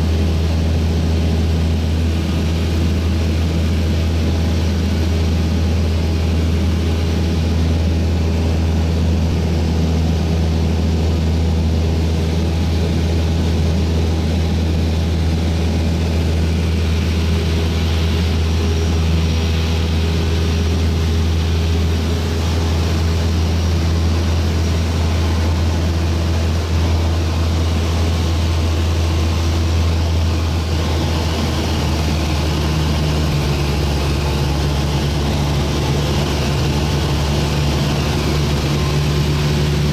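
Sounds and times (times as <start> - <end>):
aircraft engine droning: 0.0 - 39.9
rush of airflow: 0.7 - 39.9.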